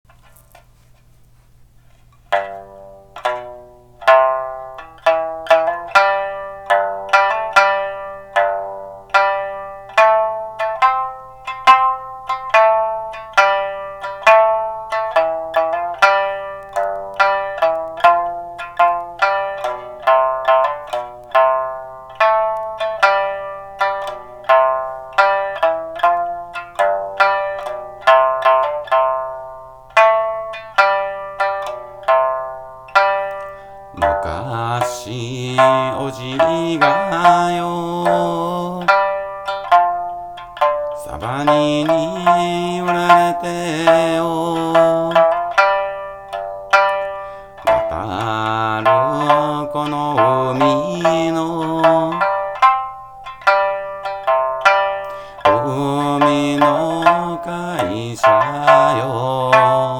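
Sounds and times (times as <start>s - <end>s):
plucked string melody: 1.8s - 59.9s.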